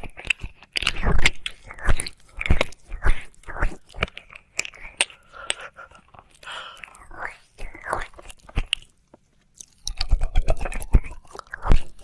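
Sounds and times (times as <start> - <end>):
wet licking mouth sounds: 0.0 - 9.0, 9.6 - 12.0.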